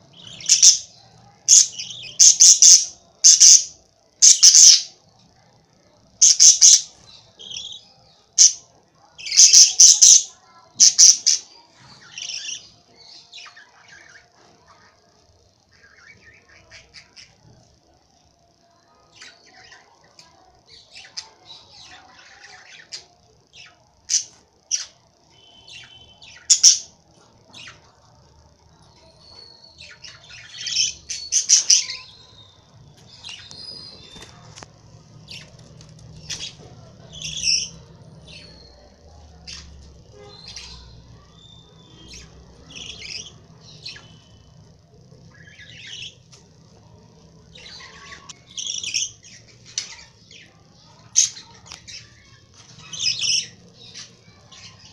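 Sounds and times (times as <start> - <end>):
lovebirds chirping and squawking: 0.0 - 4.9, 6.2 - 8.6, 9.2 - 14.8, 20.7 - 27.9, 29.0 - 46.7, 47.4 - 54.9.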